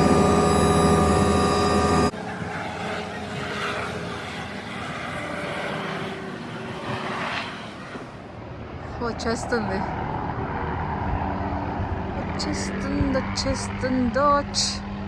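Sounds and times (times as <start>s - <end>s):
helicopter rotor and turbine: 0.0s - 15.0s.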